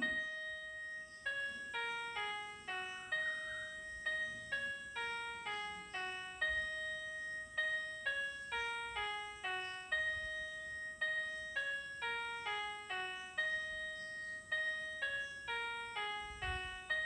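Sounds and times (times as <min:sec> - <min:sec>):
bright keyboard melody: 0:00.0 - 0:17.0.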